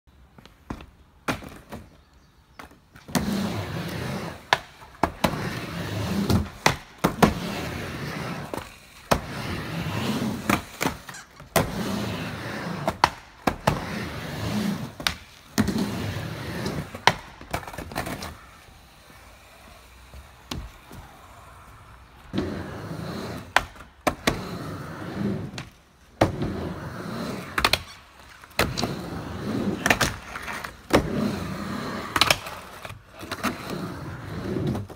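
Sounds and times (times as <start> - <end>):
skateboard wheels rumbling on ramp: 2.6 - 34.9.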